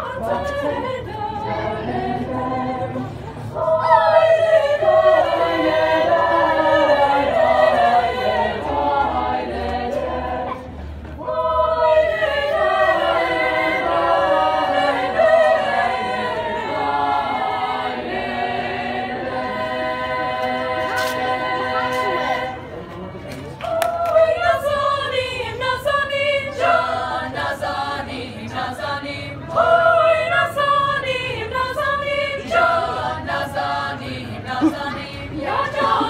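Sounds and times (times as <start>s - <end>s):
girls' choir singing a cappella: 0.0s - 22.8s, 23.6s - 36.0s.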